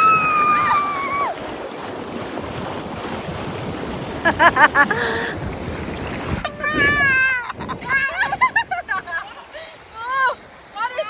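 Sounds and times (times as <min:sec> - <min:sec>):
wind on microphone: 0:00.0 - 0:09.4
ocean surf washing in: 0:00.0 - 0:11.0.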